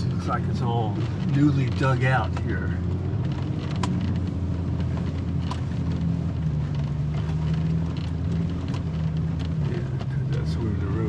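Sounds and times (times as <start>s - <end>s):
sharp clicks and knocks: 0.0s - 10.4s
vehicle engine and road noise: 0.0s - 11.0s.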